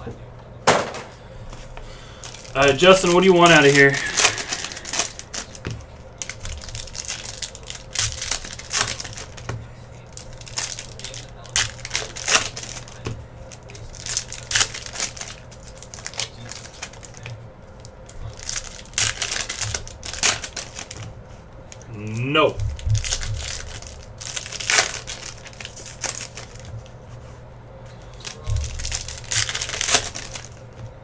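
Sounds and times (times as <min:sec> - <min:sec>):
cards being handled: 0:00.7 - 0:31.0
foil wrappers crinkling and tearing: 0:01.5 - 0:31.0.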